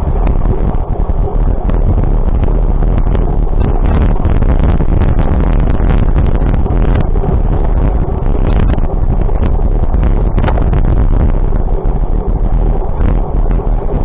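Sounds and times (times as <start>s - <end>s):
vehicle low rumble: 0.0s - 14.0s
wind buffeting microphone: 0.0s - 14.0s.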